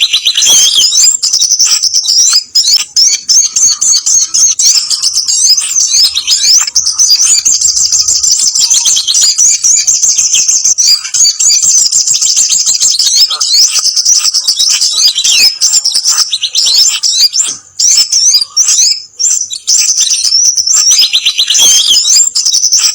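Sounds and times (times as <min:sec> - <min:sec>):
small birds chirping and trilling: 0:00.0 - 0:22.9.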